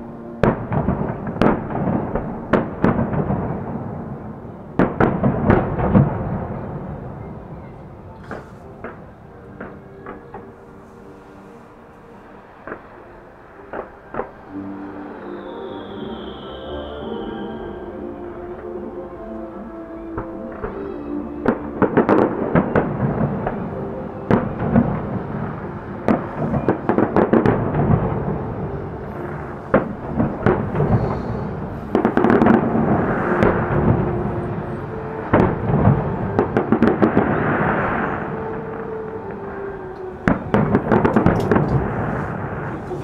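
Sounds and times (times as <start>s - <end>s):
fireworks booming and crackling: 0.0s - 43.0s
music playing: 0.0s - 43.0s.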